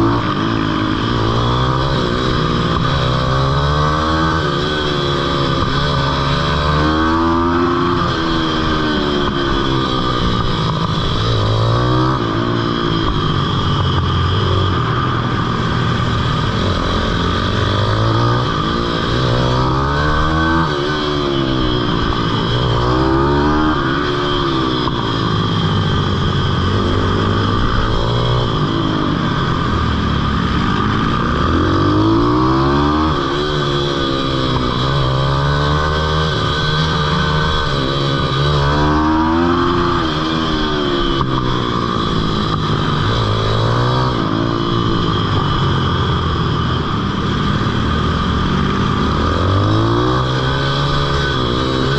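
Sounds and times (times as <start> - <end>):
pitbike engine revving: 0.0 - 51.9.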